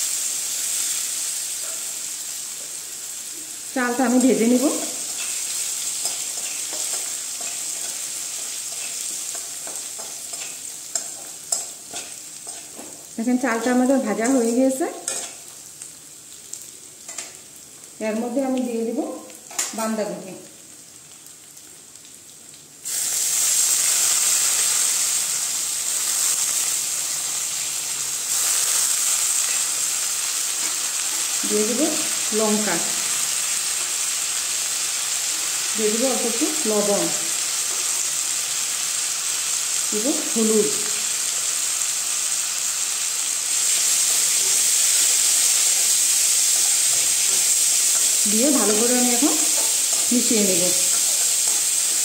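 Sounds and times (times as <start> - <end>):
cabbage sizzling in hot oil: 0.0 - 52.0.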